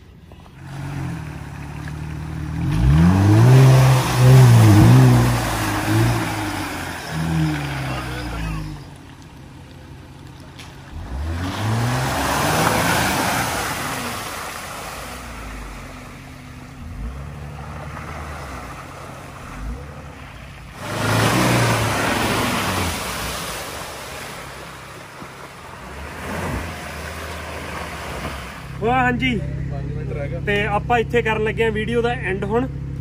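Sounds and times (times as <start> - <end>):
off-road vehicle engine revving: 0.0 - 33.0
water splashing: 0.7 - 28.9.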